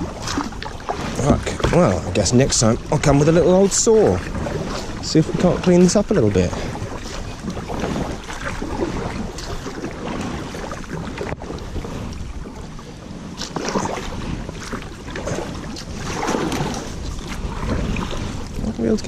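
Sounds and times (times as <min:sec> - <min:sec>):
water slopping around hull: 0:00.0 - 0:19.0
wind buffeting microphone: 0:00.0 - 0:19.0.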